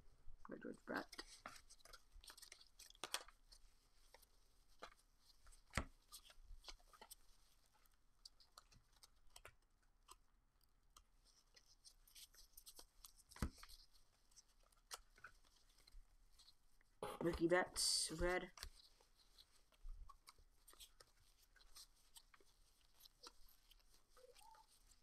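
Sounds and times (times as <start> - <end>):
cards rustling and clicking: 0.9 - 17.4, 18.1 - 25.0.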